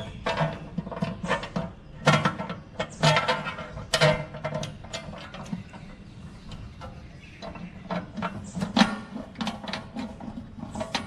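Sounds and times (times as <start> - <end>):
metallic clicks and knocks: 0.0 - 11.0.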